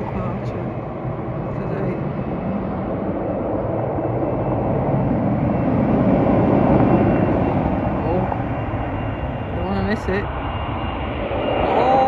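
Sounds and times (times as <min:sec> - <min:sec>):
jet engines at take-off power: 0:00.0 - 0:12.0.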